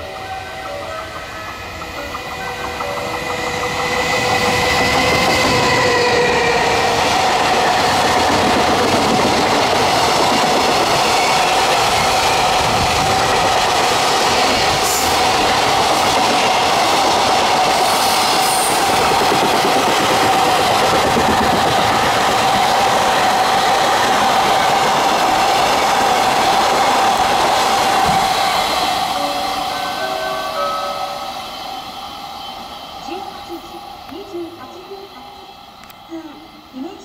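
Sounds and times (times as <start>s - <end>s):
freight train wheels rumbling: 0.0s - 37.0s
locomotive high whine: 0.0s - 37.0s.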